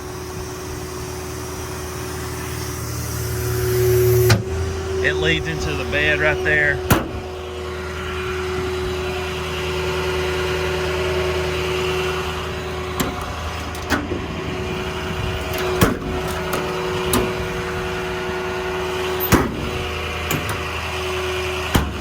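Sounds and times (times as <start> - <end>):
air compressor whine: 0.0 - 22.0
diesel engine idling: 0.0 - 22.0.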